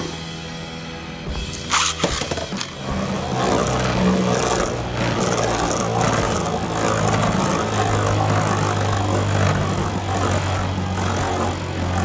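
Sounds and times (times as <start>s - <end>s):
spinning top whirring on plastic: 1.5s - 12.0s.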